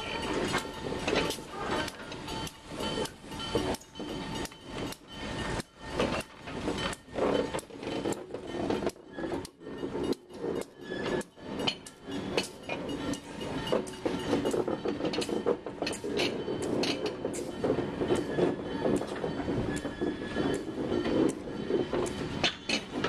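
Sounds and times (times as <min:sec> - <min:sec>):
locomotive wheels clicking on track: 0:00.0 - 0:23.0
train rumble: 0:00.0 - 0:23.0.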